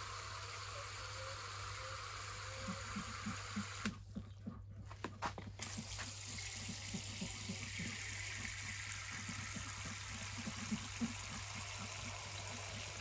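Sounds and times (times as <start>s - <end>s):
water pouring in a stream: 0.0s - 3.9s, 5.6s - 13.0s.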